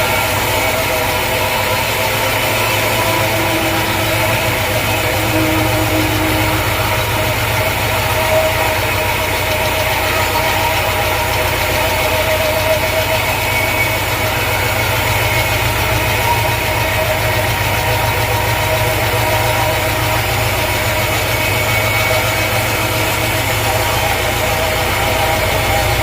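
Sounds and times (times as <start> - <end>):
engine idling: 0.0 - 26.0
faint steady whine: 0.0 - 26.0.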